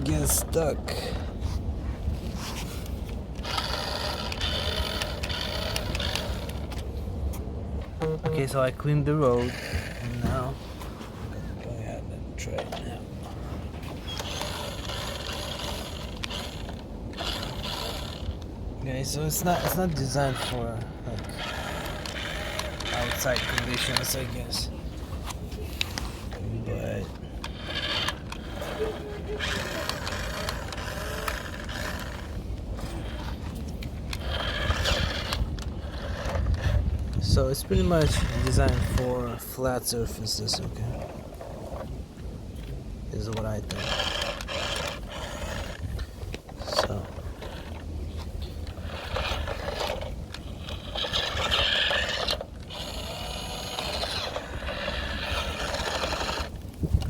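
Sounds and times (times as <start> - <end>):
toy truck electric motor whirring: 0.0 - 1.4, 2.2 - 6.9, 9.3 - 10.6, 12.7 - 41.9, 43.1 - 57.0.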